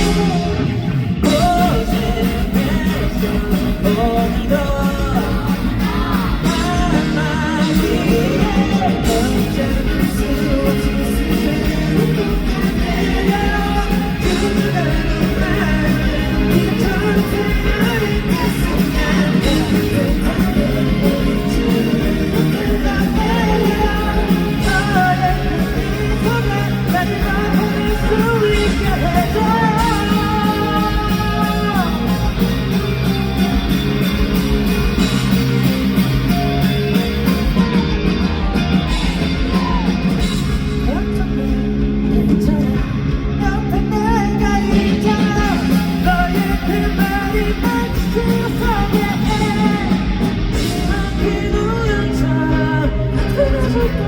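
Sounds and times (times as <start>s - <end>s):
man singing lead vocal: 0.0s - 34.2s, 34.8s - 54.0s
electric guitar: 0.0s - 54.0s
steady drum beat: 0.0s - 54.0s.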